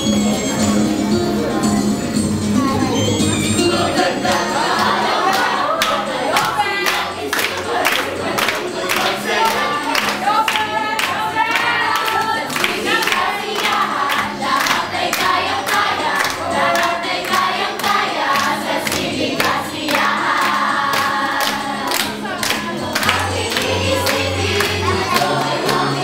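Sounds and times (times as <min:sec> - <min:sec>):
group singing with steady beat: 0:03.4 - 0:26.0.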